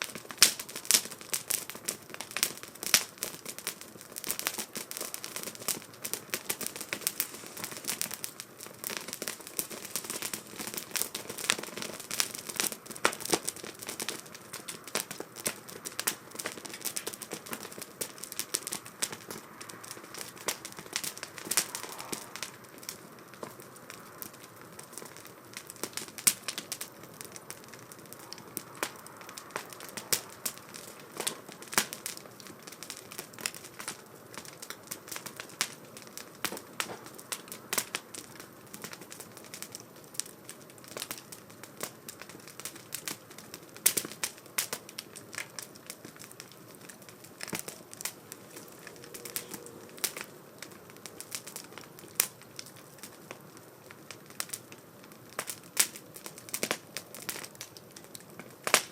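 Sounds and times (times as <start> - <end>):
faint steady hiss: 0.0 - 58.9
wood fire crackling and popping: 0.0 - 58.9.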